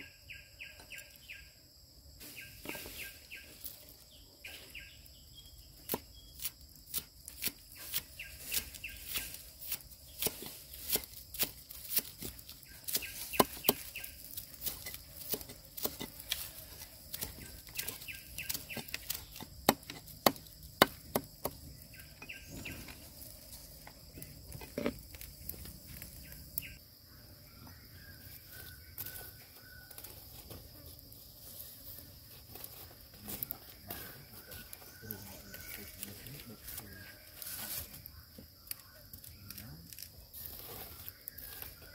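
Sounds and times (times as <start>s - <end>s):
high insect drone: 0.0s - 41.9s.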